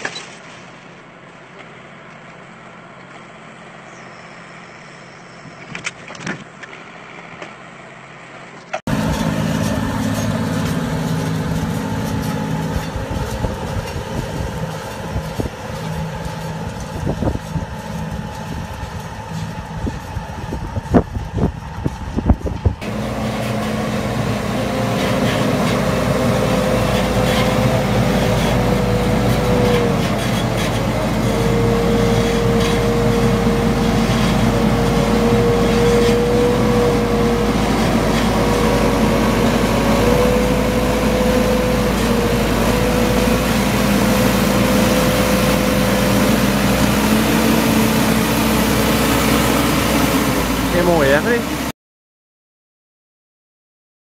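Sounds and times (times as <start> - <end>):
diesel tractor engine: 0.0 - 51.7
loader engine high whine: 0.2 - 5.9, 6.5 - 51.7.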